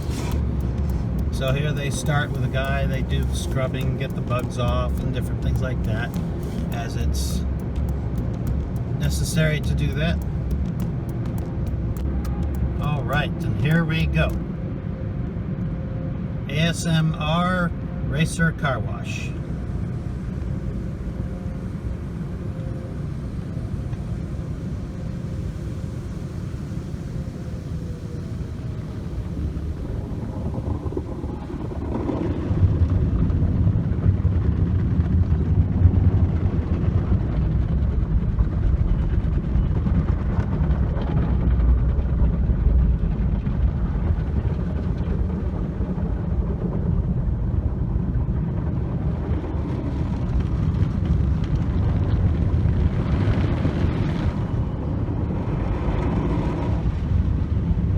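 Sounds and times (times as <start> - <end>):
car wash low rumble: 0.0 - 57.9.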